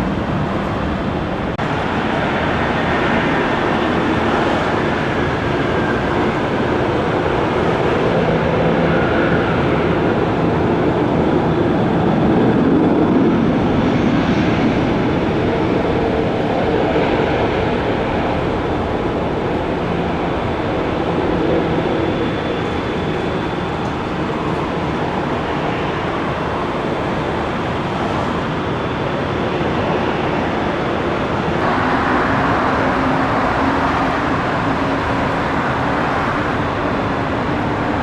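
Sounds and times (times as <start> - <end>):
jet engines running while taxiing: 0.0 - 38.0.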